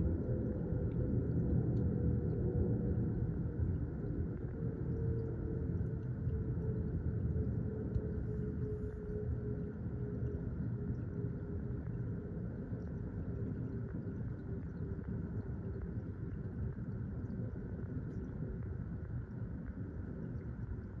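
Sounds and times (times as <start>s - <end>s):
faint steady tone: 0.0s - 21.0s.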